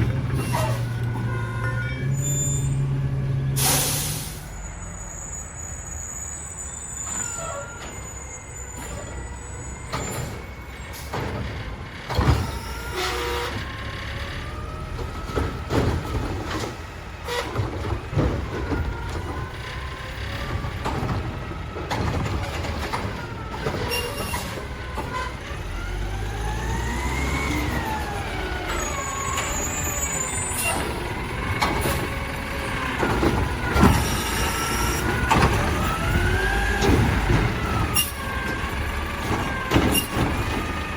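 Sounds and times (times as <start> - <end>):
garbage truck rumbling: 0.0 - 40.9.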